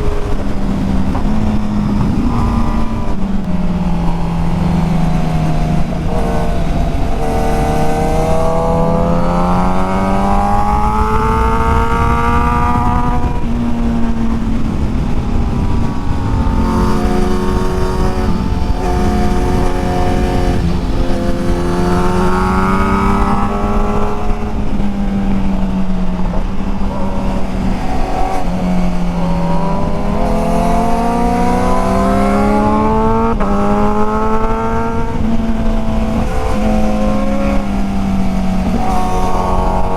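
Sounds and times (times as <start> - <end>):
motorcycle engine accelerating: 0.0 - 39.9
wind on microphone: 0.0 - 39.9.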